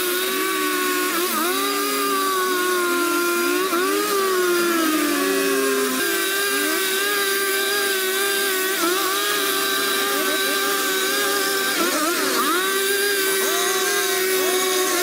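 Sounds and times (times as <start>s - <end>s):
chainsaw engine at high revs: 0.0s - 15.0s.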